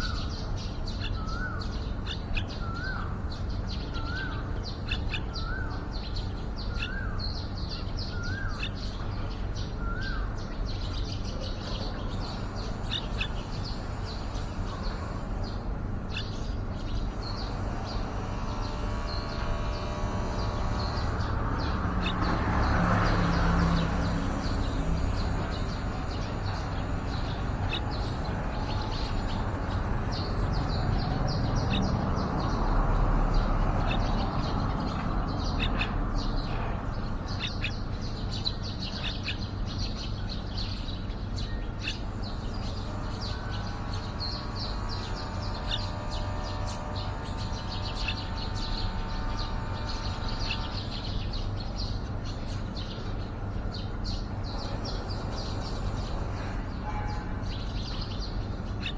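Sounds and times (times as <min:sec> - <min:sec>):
bulbuls chirping: 0:00.0 - 0:58.9.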